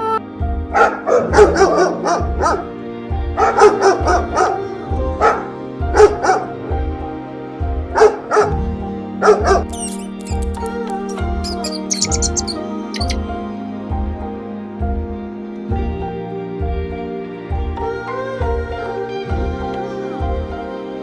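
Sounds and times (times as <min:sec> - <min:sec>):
background music with steady beat: 0:00.0 - 0:21.0.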